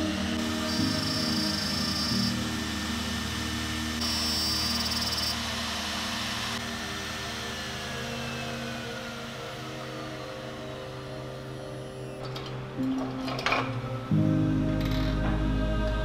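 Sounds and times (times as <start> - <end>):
electric motor winding down: 0.0 - 16.0
high cutting whine: 0.0 - 16.0.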